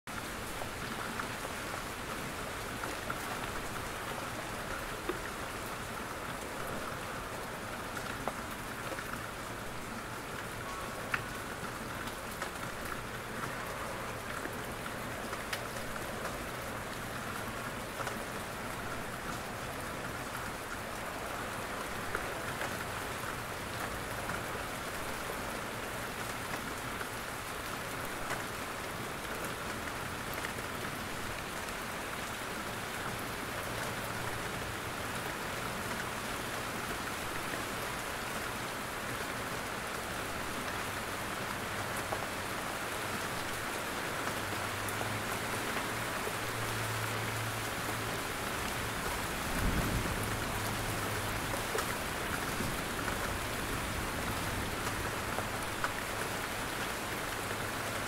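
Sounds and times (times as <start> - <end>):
rain falling on leaves: 0.1 - 58.0.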